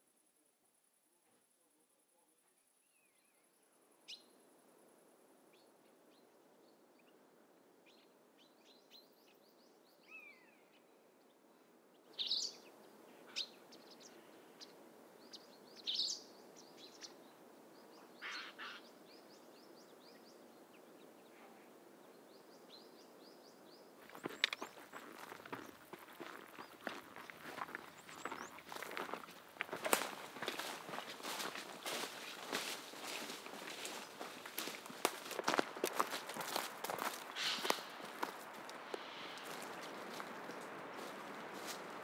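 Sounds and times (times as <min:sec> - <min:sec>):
faint outdoor hiss: 0:00.0 - 0:42.0
wild bird calls and chirps: 0:07.8 - 0:42.0.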